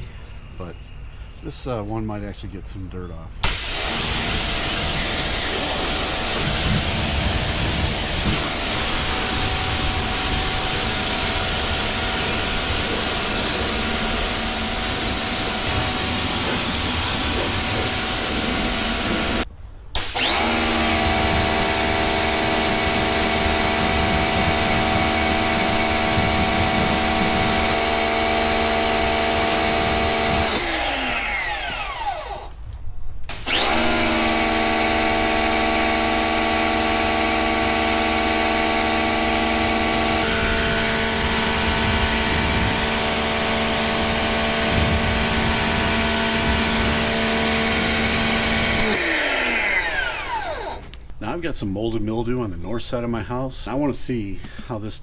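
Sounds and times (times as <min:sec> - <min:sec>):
pressure washer jet hissing: 0:03.4 - 0:32.5, 0:33.3 - 0:51.0
pump motor whining: 0:03.4 - 0:32.6, 0:33.3 - 0:51.2.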